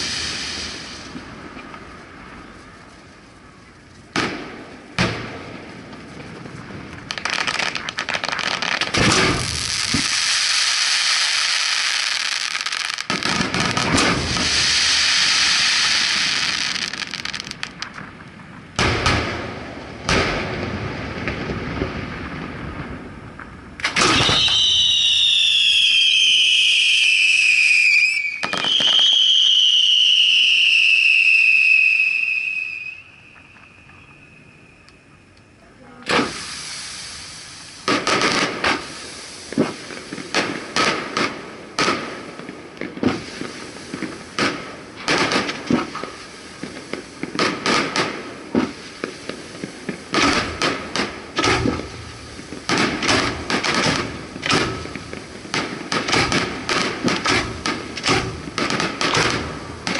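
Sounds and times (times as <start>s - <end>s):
firework launch and burst bangs: 0.0s - 1.9s, 4.1s - 32.6s, 36.0s - 59.9s
crackling hissing rush: 0.0s - 59.9s
whistling fireworks: 0.0s - 59.9s.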